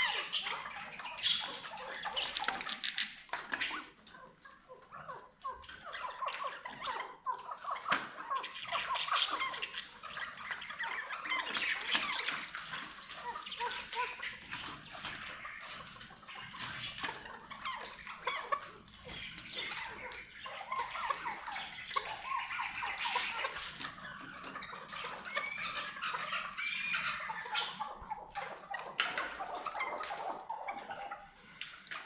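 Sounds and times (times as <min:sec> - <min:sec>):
partridge chirping and clucking: 0:00.0 - 0:32.0.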